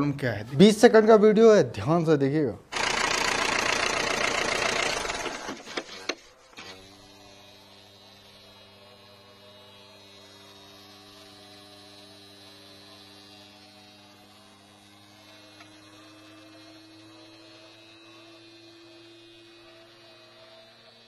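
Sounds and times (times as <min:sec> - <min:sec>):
actuator humming: 0:02.6 - 0:21.0.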